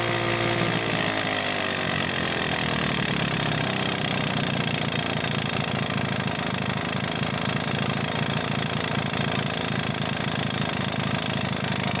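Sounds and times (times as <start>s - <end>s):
engine rattle: 0.0s - 12.0s
two-stroke engine idling: 0.0s - 12.0s.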